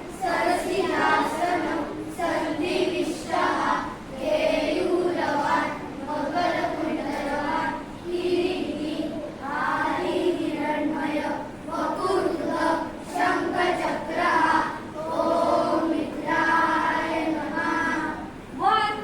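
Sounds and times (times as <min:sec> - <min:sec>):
children chanting in unison: 0:00.0 - 0:19.0.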